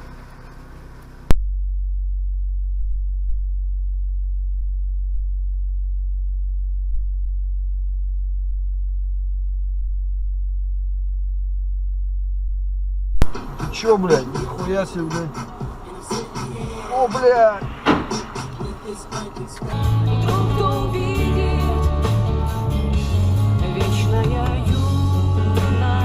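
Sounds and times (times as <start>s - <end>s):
steady low hum: 1.0s - 22.7s.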